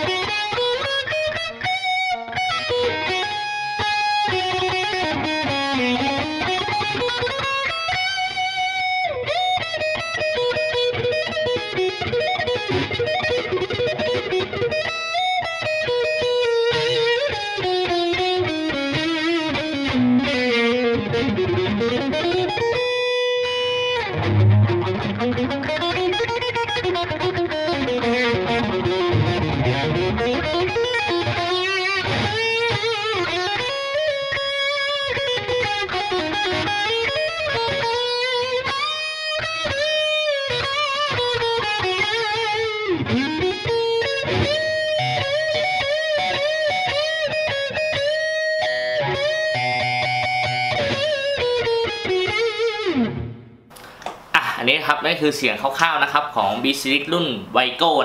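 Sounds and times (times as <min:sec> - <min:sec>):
distorted electric guitar: 0:00.0 - 0:54.6.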